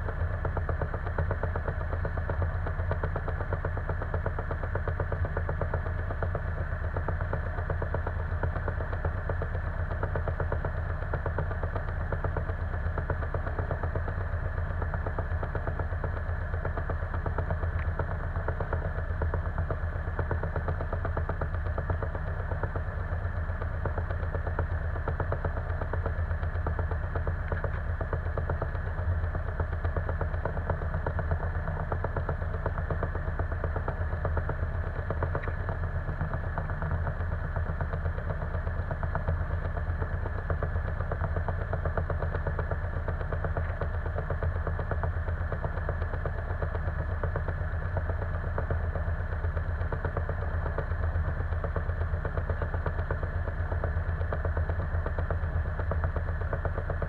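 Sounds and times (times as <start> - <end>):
light aircraft engine idling: 0.0 - 57.0.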